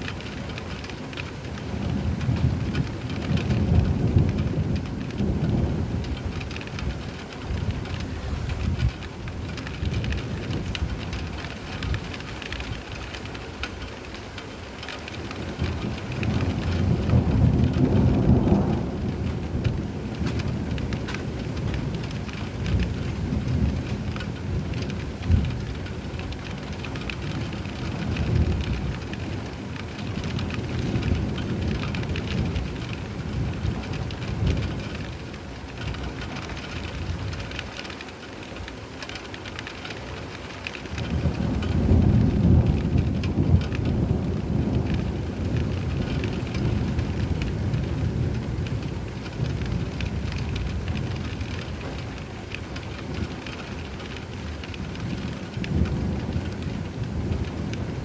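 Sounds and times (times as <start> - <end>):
rolling thunder: 0.0 - 14.0, 15.1 - 37.8, 40.2 - 58.0
steady rain falling: 0.0 - 58.0.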